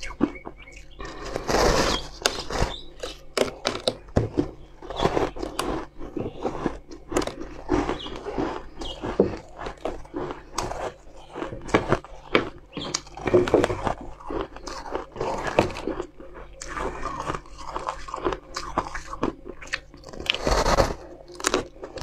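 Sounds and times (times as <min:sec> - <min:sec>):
crunching and chewing ice: 0:00.0 - 0:22.0.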